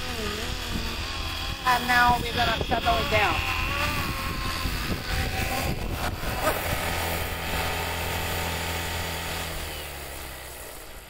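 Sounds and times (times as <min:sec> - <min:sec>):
rc helicopter rotors whirring: 0:00.0 - 0:11.0.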